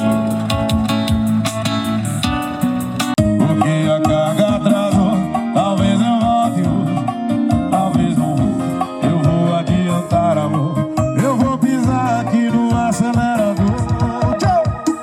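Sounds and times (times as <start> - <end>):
song with singing and beat: 0.0 - 15.0.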